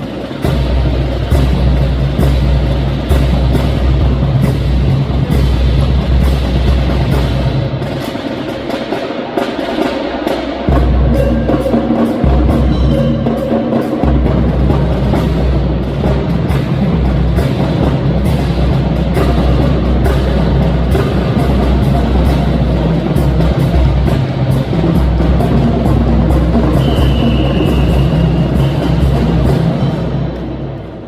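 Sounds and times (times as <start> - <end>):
music with drum beat and bass: 0.0 - 30.6.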